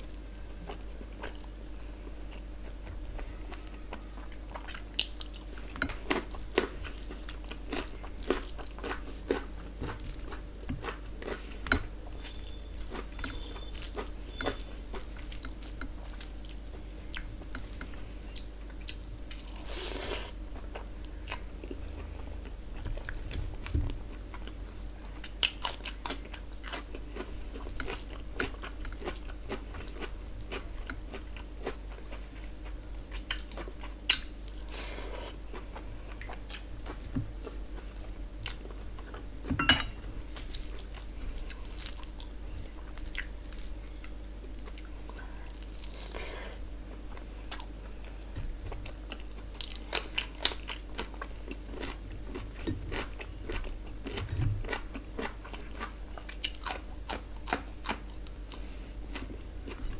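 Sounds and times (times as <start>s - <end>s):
chewing with wet mouth sounds: 0.0s - 59.9s
low steady hum: 0.0s - 59.9s.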